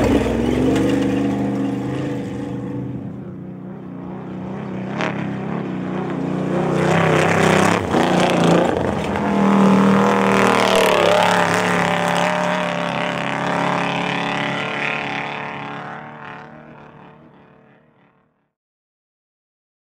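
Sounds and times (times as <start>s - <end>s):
truck engine driving past: 0.0s - 18.2s.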